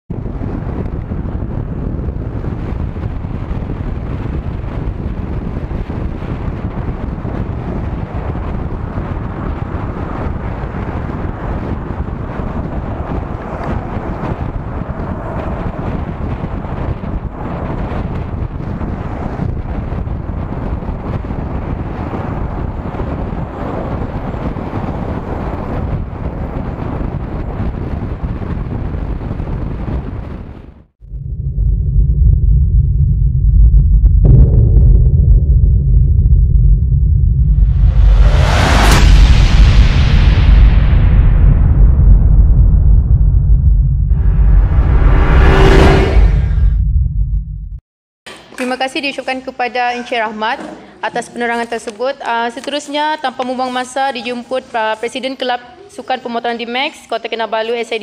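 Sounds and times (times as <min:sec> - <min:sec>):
low road rumble: 0:00.0 - 0:48.6
wind buffeting microphone: 0:00.1 - 0:47.8.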